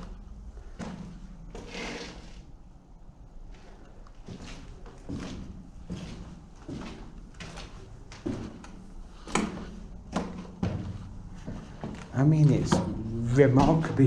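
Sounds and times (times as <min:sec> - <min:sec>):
footsteps walking: 0:00.0 - 0:02.6, 0:03.2 - 0:14.0.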